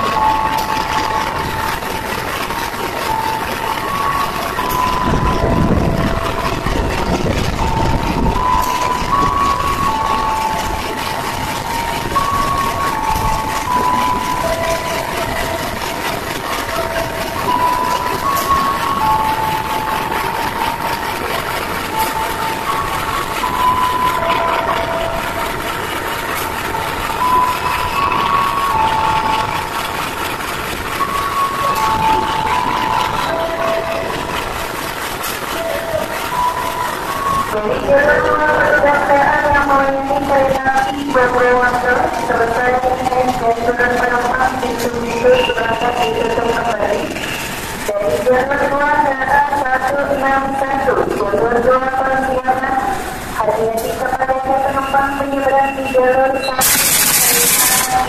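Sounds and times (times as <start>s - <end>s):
locomotive engine whine: 0.0s - 58.0s.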